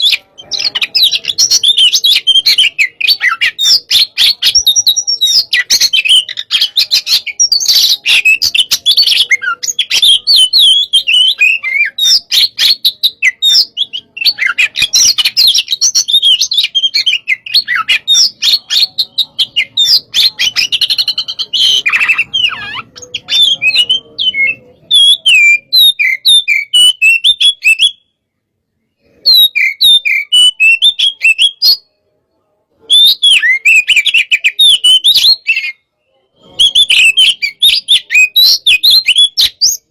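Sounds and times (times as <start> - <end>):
songbird singing rapid whistles: 0.0 - 28.2, 29.0 - 32.0, 32.8 - 39.9.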